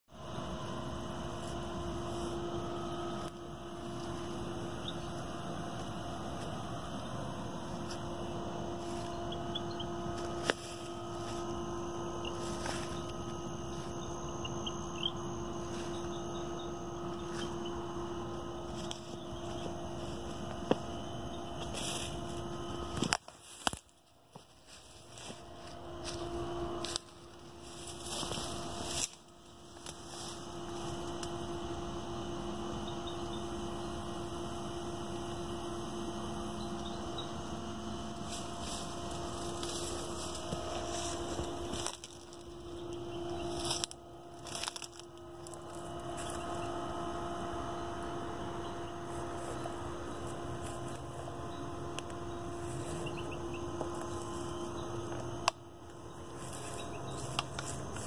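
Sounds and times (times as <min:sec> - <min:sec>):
steady low hum: 0:00.1 - 0:58.0.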